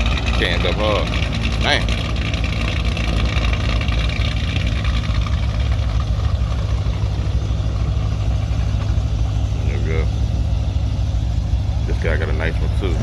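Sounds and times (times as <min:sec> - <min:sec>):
car engine idling roughly: 0:00.0 - 0:13.0.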